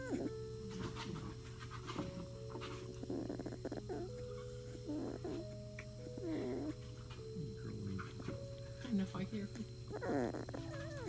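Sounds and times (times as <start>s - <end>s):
puppy whimpering in sleep: 0.0s - 8.6s, 9.6s - 11.0s.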